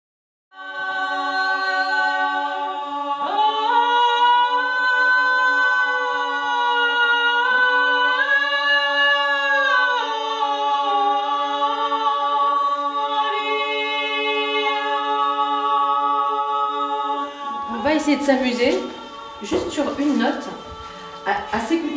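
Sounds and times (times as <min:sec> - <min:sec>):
vocal ensemble singing chords: 0:00.5 - 0:21.9.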